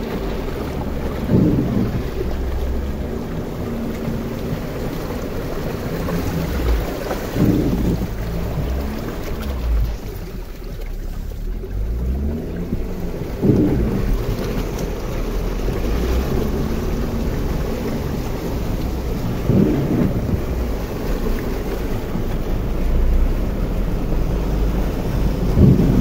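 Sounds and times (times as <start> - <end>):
floodwater rushing against car: 0.0 - 26.0.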